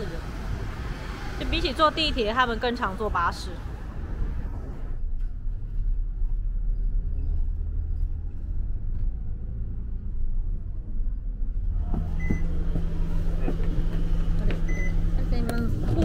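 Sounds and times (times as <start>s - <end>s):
bus engine rumble: 0.0s - 16.0s
street traffic: 0.0s - 16.0s.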